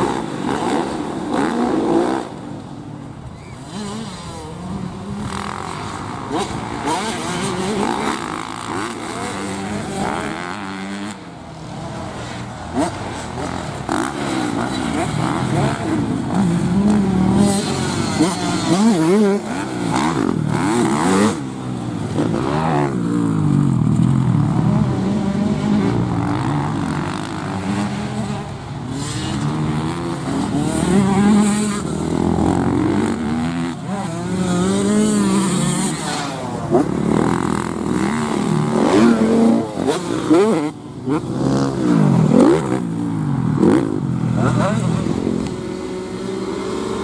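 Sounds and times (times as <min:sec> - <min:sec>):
motorcycle engine revving: 0:03.6 - 0:47.0.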